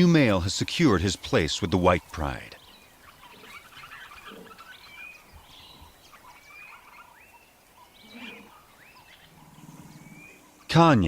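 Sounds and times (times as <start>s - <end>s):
birds chirping and whistling: 0.0s - 10.9s.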